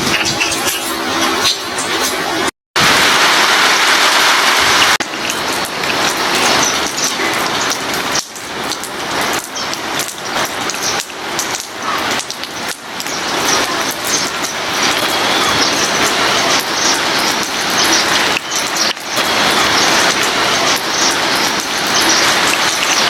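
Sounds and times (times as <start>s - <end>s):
raindrops pattering on surfaces: 0.0s - 23.0s
steady hiss of rain: 1.8s - 23.0s.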